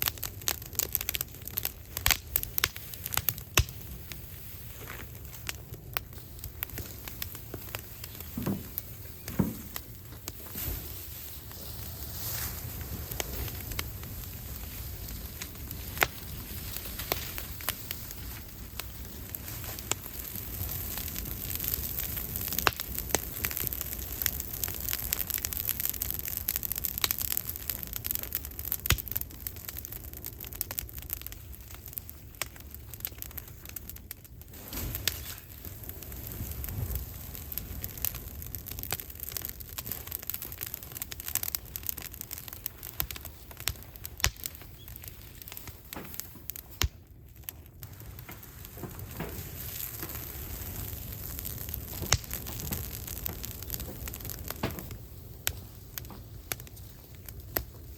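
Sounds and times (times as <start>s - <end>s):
fire hissing: 0.0s - 57.9s
wood fire crackling and popping: 0.0s - 57.9s.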